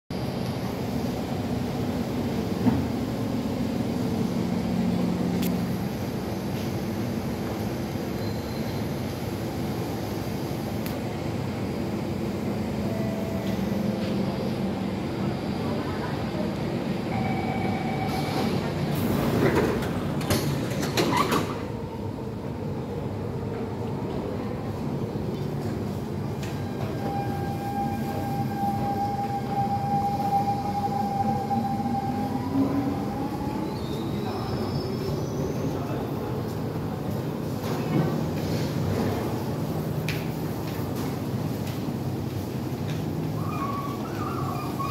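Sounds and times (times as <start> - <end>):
train low hum: 0.1 - 44.9.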